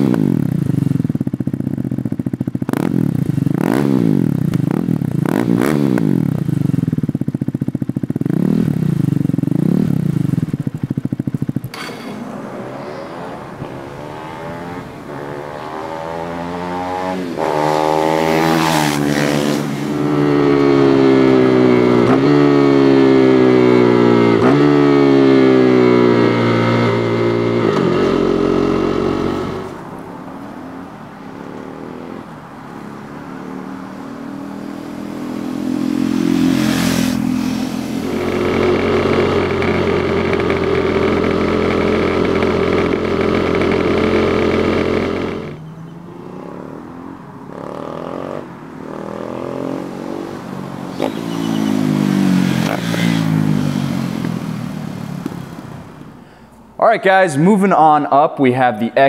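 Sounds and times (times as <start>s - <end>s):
motorcycle engine revving: 0.0s - 56.4s
motorcycle passing by: 2.7s - 7.2s, 8.1s - 56.4s.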